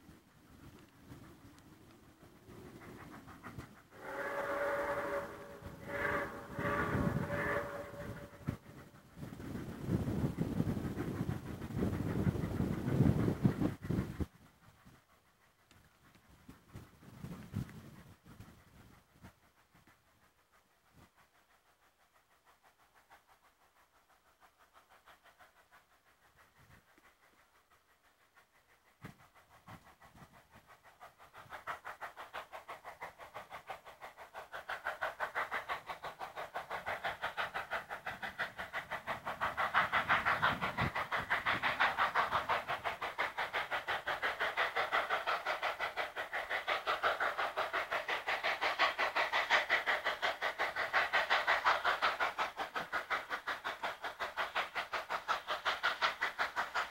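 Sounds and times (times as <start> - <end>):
steam locomotive exhaust chuffing: 0.0 - 56.9.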